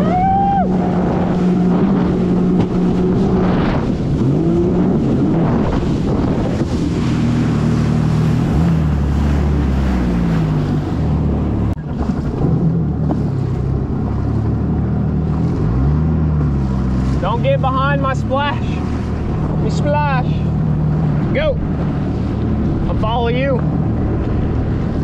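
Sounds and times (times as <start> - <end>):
wind buffeting microphone: 0.0 - 17.4, 18.5 - 25.0
jet ski engine running: 0.0 - 25.0
water rushing past: 0.0 - 25.0.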